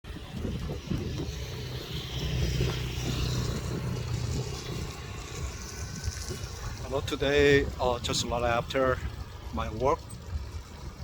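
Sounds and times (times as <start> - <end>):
vehicle engine humming: 0.1 - 11.0.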